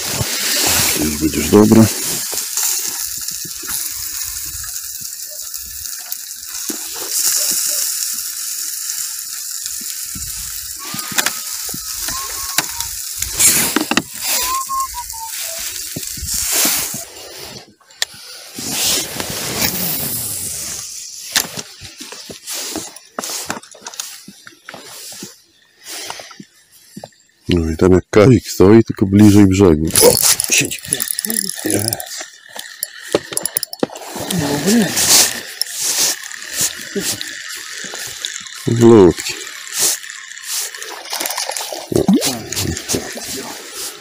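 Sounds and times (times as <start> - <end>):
sausages sizzling on grill: 0.0 - 44.0.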